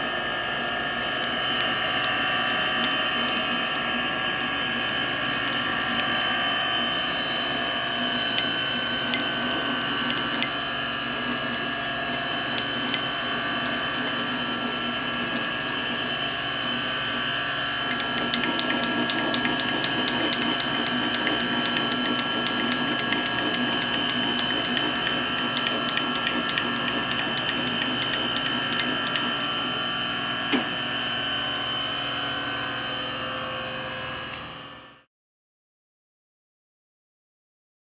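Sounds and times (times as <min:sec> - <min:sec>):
grinder motor whine and hum: 0:00.0 - 0:35.0.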